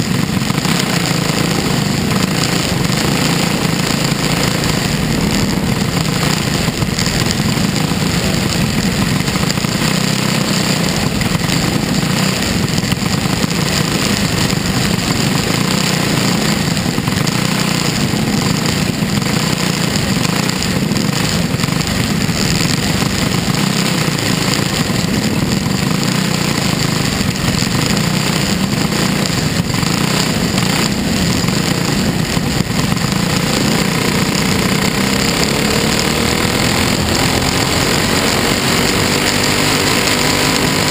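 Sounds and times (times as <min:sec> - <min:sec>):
race car engine drone: 0:00.0 - 0:40.9.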